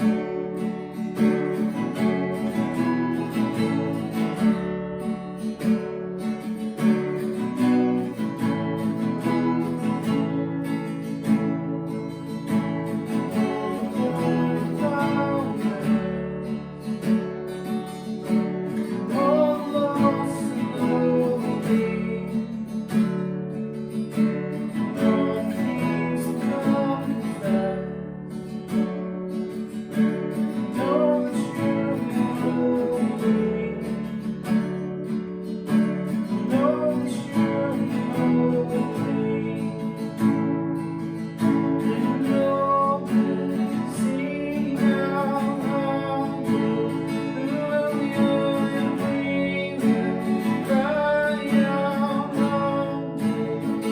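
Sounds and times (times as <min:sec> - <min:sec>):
strummed acoustic guitar: 0:00.0 - 0:53.9.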